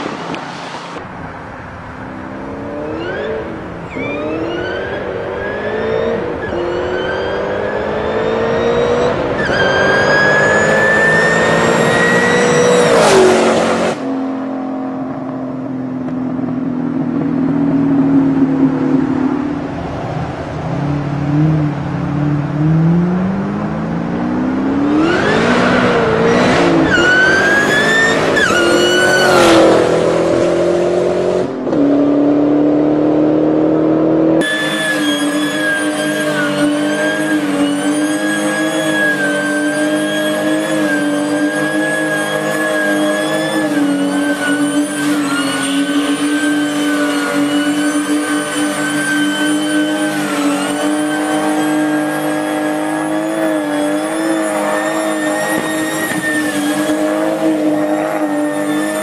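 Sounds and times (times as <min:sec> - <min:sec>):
car engine at high revs: 0:00.0 - 0:59.0
car engine accelerating: 0:02.3 - 0:59.0.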